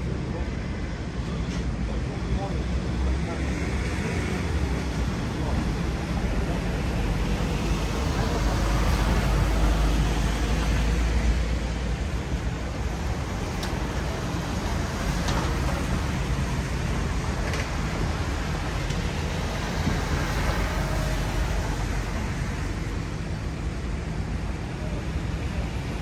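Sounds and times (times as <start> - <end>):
traffic rumble: 0.0 - 26.0
urban noise: 0.0 - 26.0.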